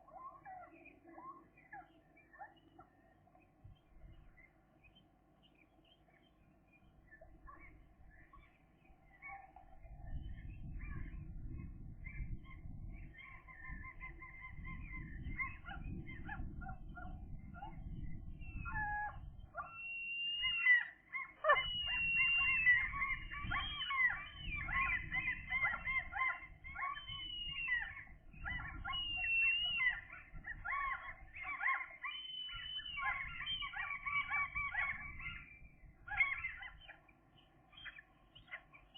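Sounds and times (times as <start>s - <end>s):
gull chicks calling: 7.1s - 38.9s.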